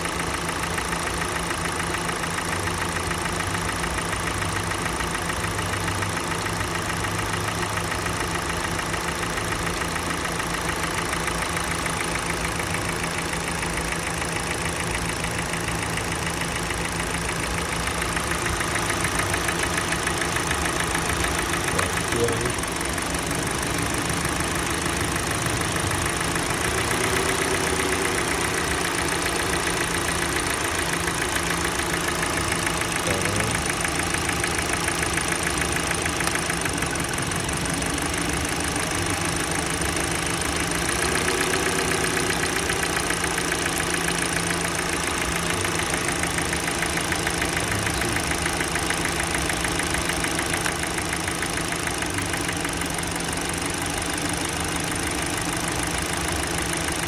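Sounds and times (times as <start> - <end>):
car engine idling: 0.0 - 57.0
rapid engine knock: 0.0 - 57.0.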